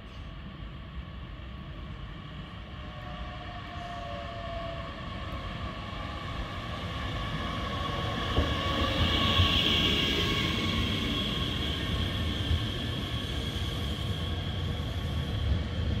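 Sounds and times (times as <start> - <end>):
electric train arriving: 2.1 - 16.0.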